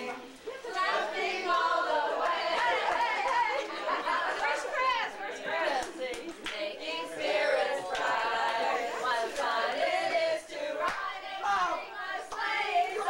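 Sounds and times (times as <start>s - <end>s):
group singing without instruments: 0.0s - 13.0s.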